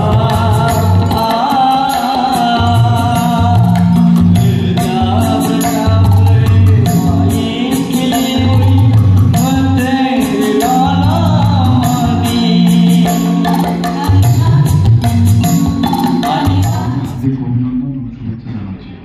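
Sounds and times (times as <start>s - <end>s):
group singing into microphones: 0.0s - 17.4s
tabla: 0.0s - 17.6s
keyboard: 0.0s - 19.0s.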